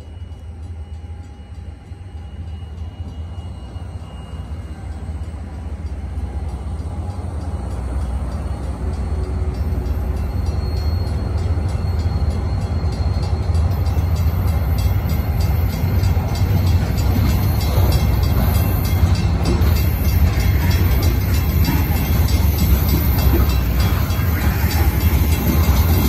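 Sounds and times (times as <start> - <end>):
crossing bells ringing: 0.0 - 26.0
freight train rumbling past: 0.0 - 26.0.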